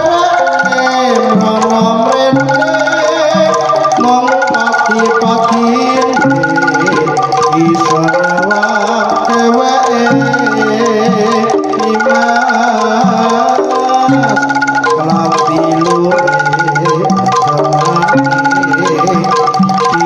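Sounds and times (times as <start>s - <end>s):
hand drums: 0.0s - 20.0s
tuned metal percussion melody: 0.0s - 20.0s.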